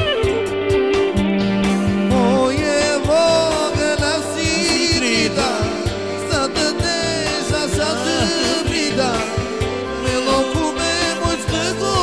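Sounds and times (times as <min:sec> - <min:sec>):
band backing: 0:00.0 - 0:12.0
steady drum beat: 0:00.0 - 0:12.0
person singing with vibrato: 0:01.7 - 0:12.0.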